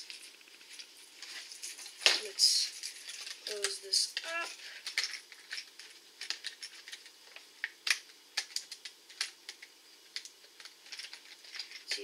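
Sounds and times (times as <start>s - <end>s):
plastic packaging clicking and crackling: 0.0s - 12.0s.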